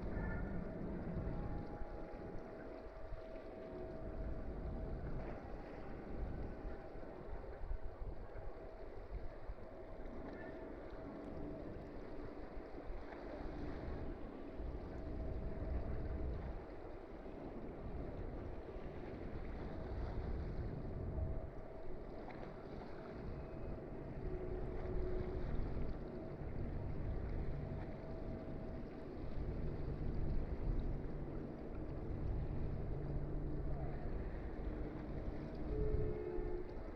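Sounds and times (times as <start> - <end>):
faint steady hum: 0.0 - 36.9.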